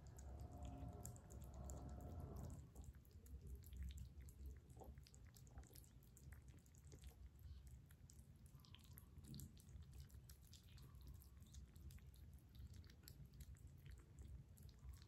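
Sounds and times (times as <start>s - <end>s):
kittens lapping and chewing: 0.0s - 15.0s.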